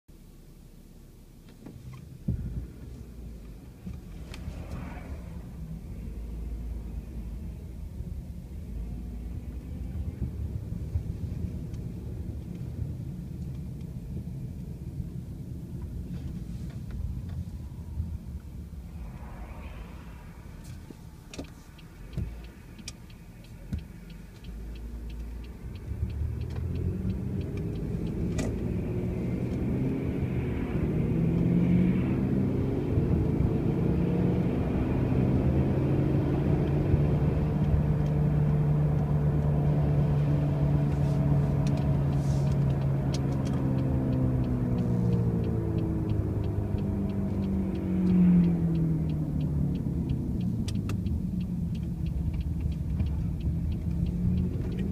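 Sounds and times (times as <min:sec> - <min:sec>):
car running gear droning: 0:00.1 - 0:54.9.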